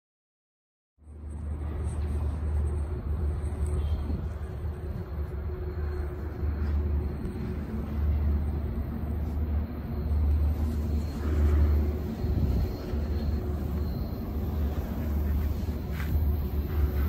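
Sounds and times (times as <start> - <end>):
distant traffic noise: 1.0 - 17.0
low rumble: 1.0 - 17.0.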